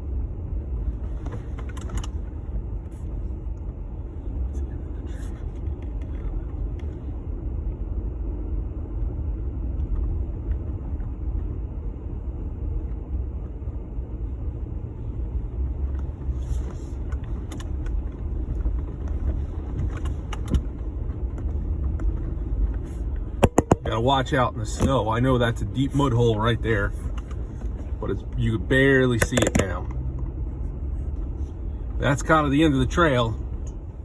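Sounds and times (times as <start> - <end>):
engine and tyre rumble: 0.0 - 34.0.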